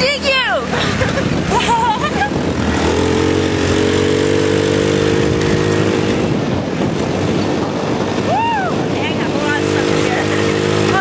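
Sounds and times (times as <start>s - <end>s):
off-road vehicle engine running: 0.0s - 11.0s
steady rush of noise: 0.0s - 11.0s.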